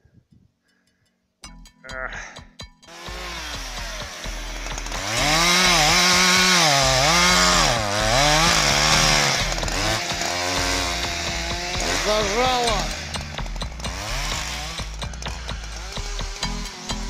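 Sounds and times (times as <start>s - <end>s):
chainsaw cutting wood: 2.8s - 17.0s.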